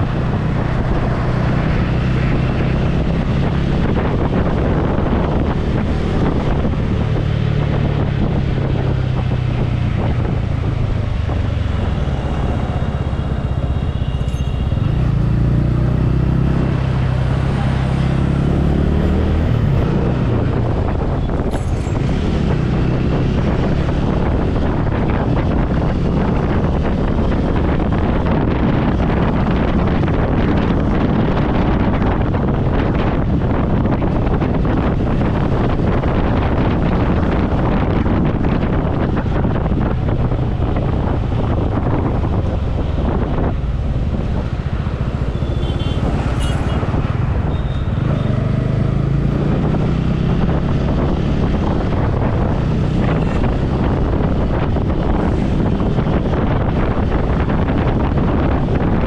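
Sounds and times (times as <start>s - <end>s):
motorcycle engine: 0.0s - 59.0s
road noise: 0.0s - 59.0s
wind buffeting microphone: 0.0s - 59.0s.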